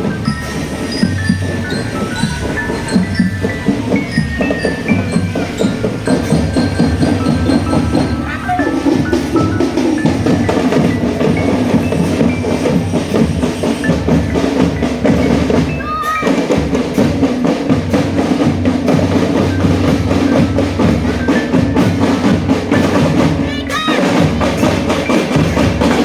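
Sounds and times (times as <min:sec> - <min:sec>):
marching drum band: 0:00.0 - 0:26.0.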